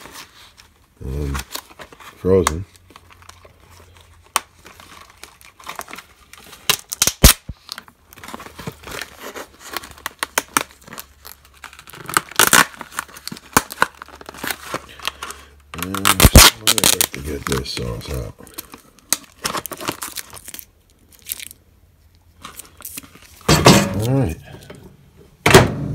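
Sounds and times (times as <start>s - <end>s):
plastic film crinkling: 0.0s - 24.7s.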